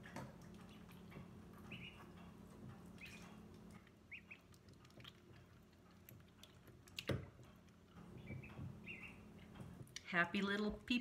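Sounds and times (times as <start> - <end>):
ticking and tapping in a sink: 0.0 - 11.0
ducklings peeping: 0.2 - 9.7.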